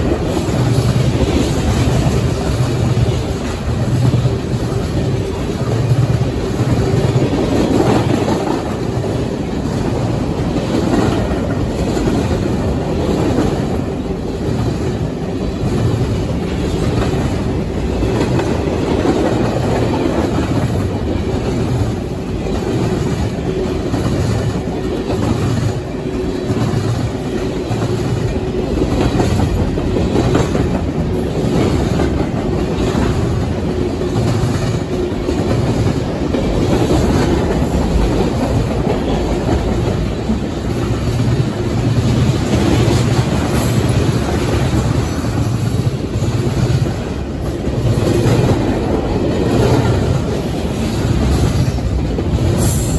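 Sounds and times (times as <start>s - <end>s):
steel wheels rumbling on rail: 0.0s - 52.9s
wheels clicking over rail joints: 0.0s - 52.9s.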